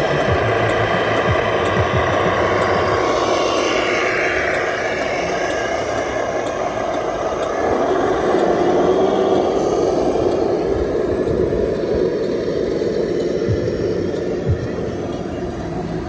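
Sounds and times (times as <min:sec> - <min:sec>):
toy trucks engine-like drone: 0:00.0 - 0:16.0.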